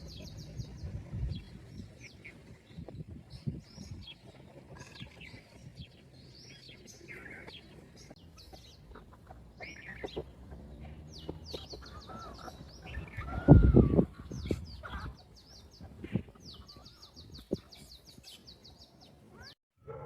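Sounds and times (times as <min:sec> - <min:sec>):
small birds chirping: 0:00.0 - 0:19.6.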